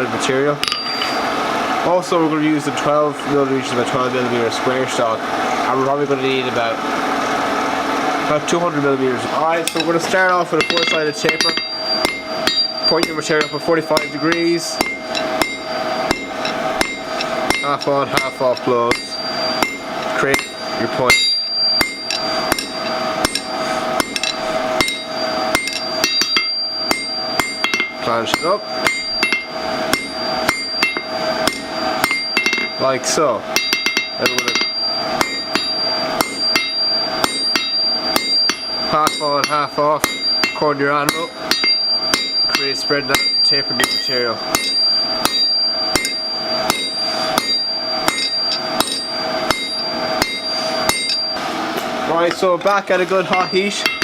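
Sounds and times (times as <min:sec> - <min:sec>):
hammer striking hot steel on anvil: 0:00.6 - 0:01.3, 0:09.6 - 0:32.9, 0:33.5 - 0:54.0.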